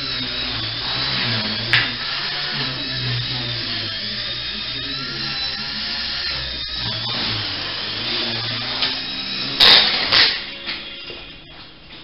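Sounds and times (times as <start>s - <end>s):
helicopter rotor buzz: 0.0s - 10.5s
low rotor hum: 0.0s - 10.5s
high electric motor whine: 0.0s - 12.0s.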